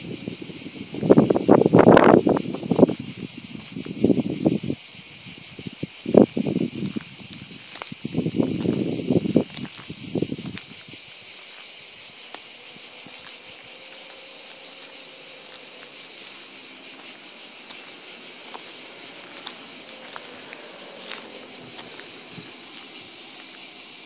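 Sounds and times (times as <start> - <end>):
insects singing: 0.0 - 24.0.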